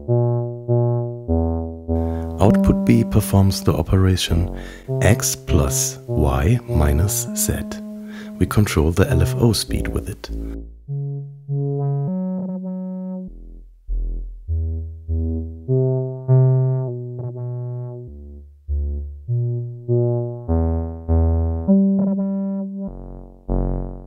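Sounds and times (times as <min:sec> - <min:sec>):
synthesizer plucked notes: 0:00.0 - 0:24.0.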